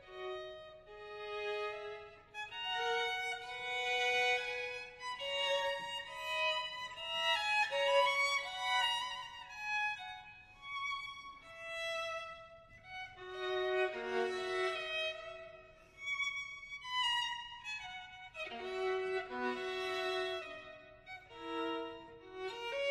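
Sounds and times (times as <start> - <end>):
violin playing slow melody: 0.0 - 22.9.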